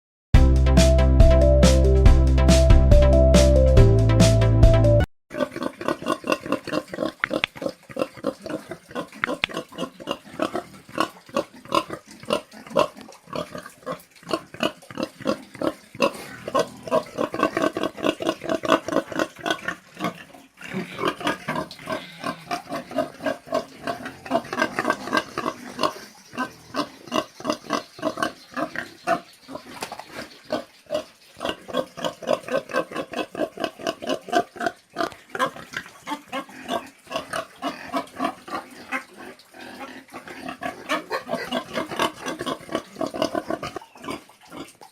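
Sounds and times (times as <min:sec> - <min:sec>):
pigs grunting: 0:05.3 - 0:44.9.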